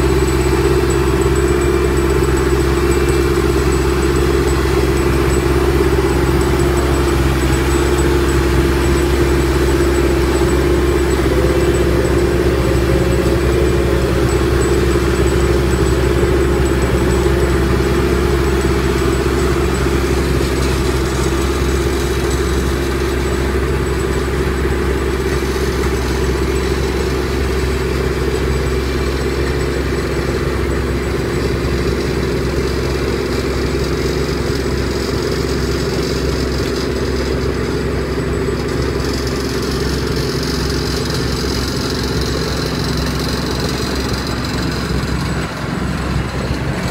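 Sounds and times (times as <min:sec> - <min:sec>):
construction machine engine running: 0:00.0 - 0:46.9.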